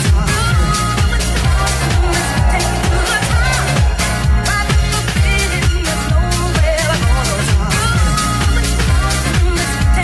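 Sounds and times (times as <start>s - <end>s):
disco house dance music: 0.0s - 10.0s.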